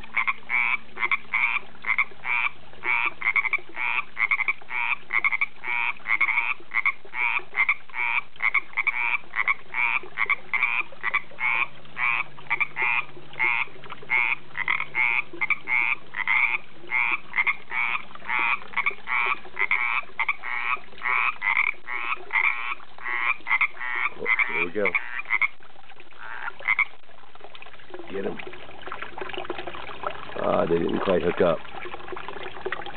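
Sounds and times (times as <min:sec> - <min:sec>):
low falling frog call: 0:00.0 - 0:27.0
frogs croaking: 0:00.0 - 0:27.1.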